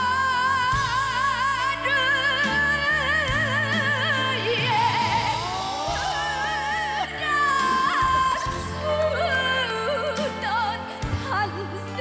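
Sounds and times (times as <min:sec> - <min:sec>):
woman singing into microphone: 0:00.0 - 0:12.0.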